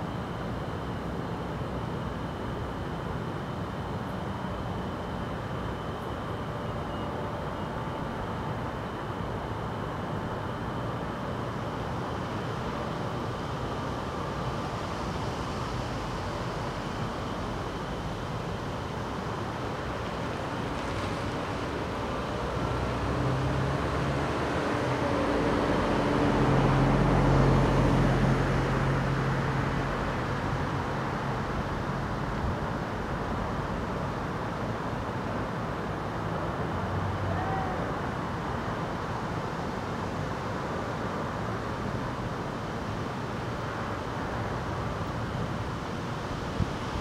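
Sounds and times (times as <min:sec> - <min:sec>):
outdoor background hiss: 0:00.0 - 0:47.0.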